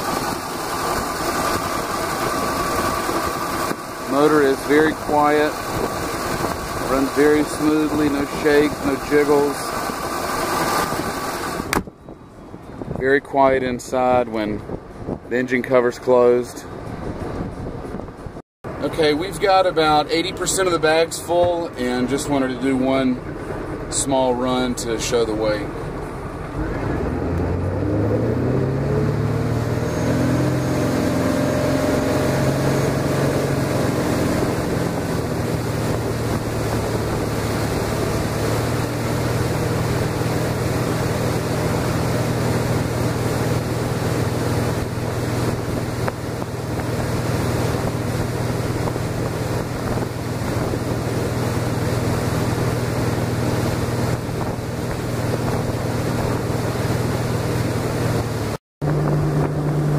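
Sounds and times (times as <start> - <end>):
water rushing: 0.0 - 11.9, 18.7 - 59.9
boat engine running: 0.0 - 59.9
wind buffeting microphone: 0.0 - 59.9.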